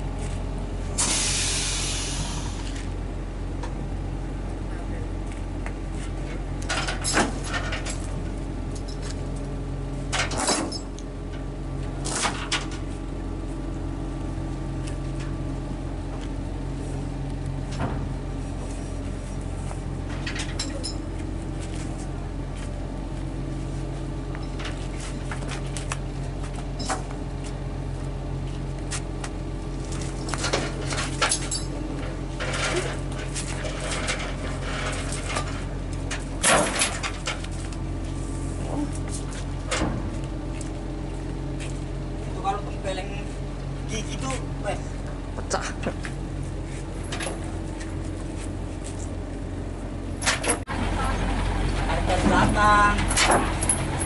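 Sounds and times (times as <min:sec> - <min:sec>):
truck diesel engine humming: 0:00.0 - 0:54.0.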